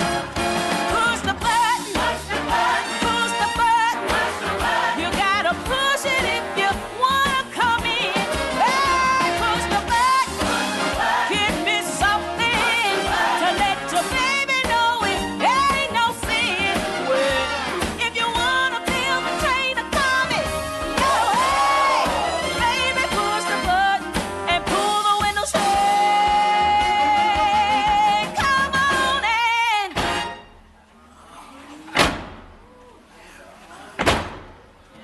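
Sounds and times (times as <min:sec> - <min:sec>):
woman singing: 0:00.9 - 0:30.0.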